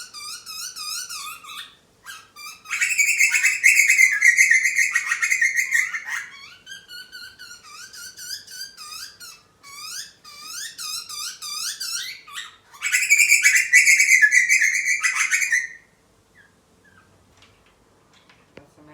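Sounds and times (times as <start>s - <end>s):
harsh rasping bird call: 0.0s - 15.9s.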